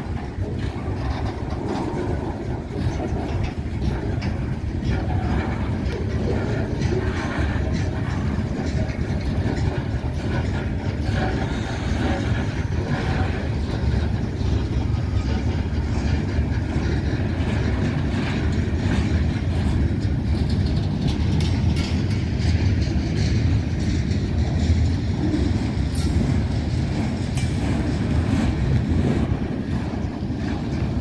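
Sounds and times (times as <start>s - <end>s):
freight train wheels rumbling: 0.0s - 31.0s
wheels clicking over rail joints: 0.0s - 31.0s.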